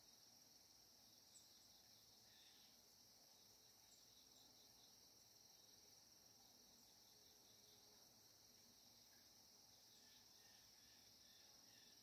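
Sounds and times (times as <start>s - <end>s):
high insect chorus: 0.0s - 12.0s.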